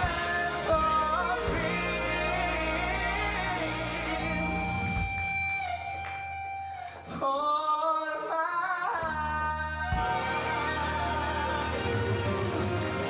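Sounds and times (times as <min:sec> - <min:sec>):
man singing long notes: 0:00.0 - 0:05.0, 0:07.1 - 0:13.0
big band playing: 0:00.0 - 0:06.9, 0:09.0 - 0:13.0.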